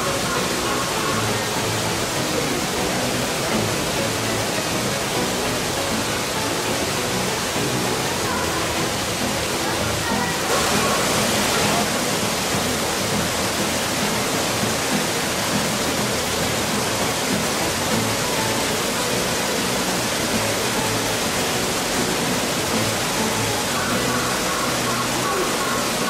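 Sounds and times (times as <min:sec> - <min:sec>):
faint voices of onlookers: 0:00.0 - 0:26.0
steady rushing noise: 0:00.0 - 0:26.0.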